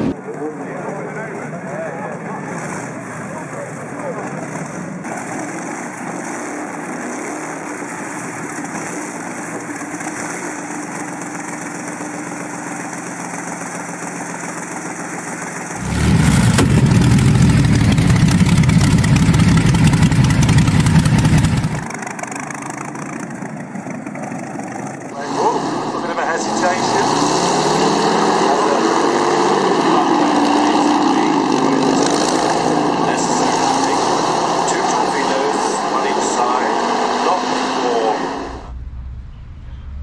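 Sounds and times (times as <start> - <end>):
racing engine running: 1.3 - 40.0.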